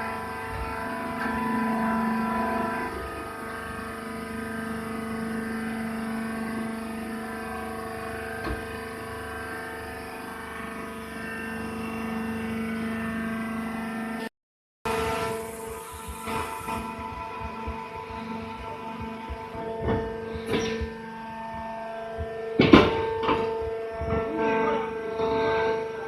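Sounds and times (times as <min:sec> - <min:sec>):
baling machine humming: 0:00.0 - 0:14.3, 0:14.9 - 0:26.0.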